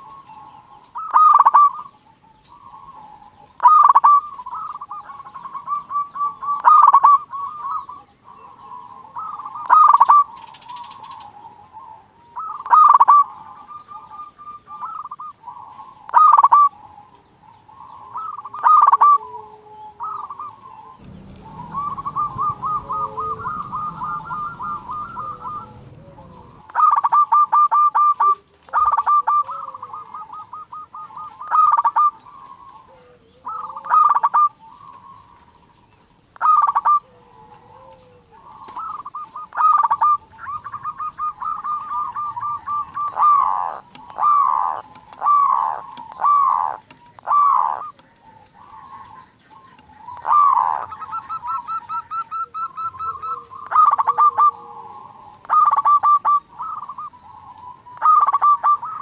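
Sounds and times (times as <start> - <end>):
doves cooing rapidly: 0.0 - 59.0.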